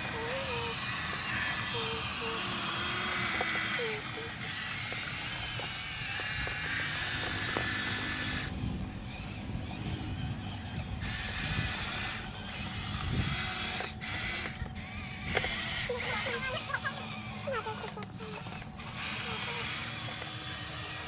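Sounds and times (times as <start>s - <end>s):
steady low rumble: 0.0s - 17.6s
toy truck electric motors whirring: 0.0s - 21.0s.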